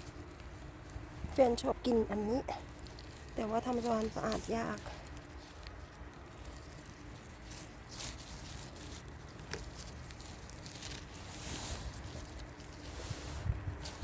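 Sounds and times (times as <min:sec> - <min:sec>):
wind rumbling on microphone: 0:00.0 - 0:08.9, 0:09.7 - 0:14.0
twigs snapping: 0:00.0 - 0:13.0
rustling in undergrowth: 0:00.0 - 0:14.0.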